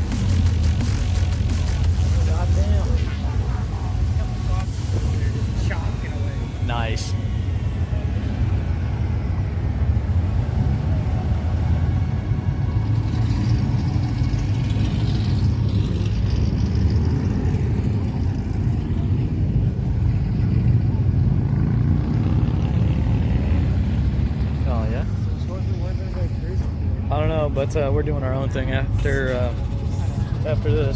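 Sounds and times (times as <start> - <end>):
low rumble of vehicle noise: 0.0 - 30.9.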